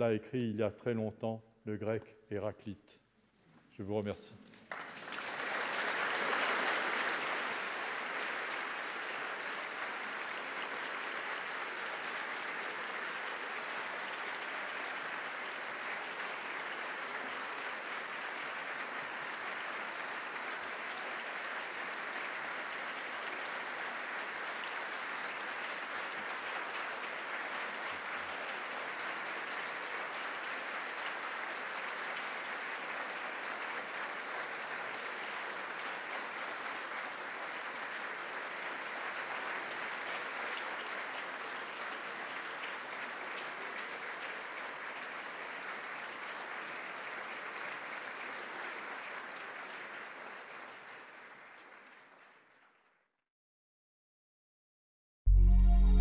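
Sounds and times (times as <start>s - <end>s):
large audience applauding: 4.5s - 53.0s.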